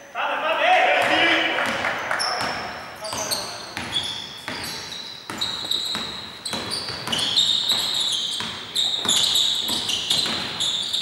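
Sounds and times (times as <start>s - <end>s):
basketball bouncing: 1.0s - 11.0s
sneakers squeaking on hardwood: 1.0s - 11.0s.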